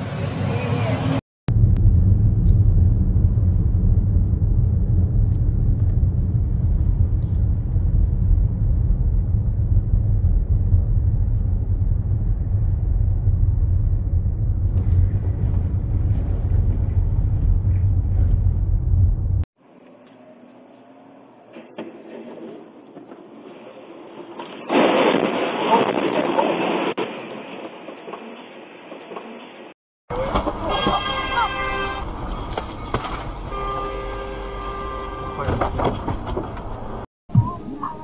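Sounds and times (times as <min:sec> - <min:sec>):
road and wind noise: 0:00.0 - 0:37.5.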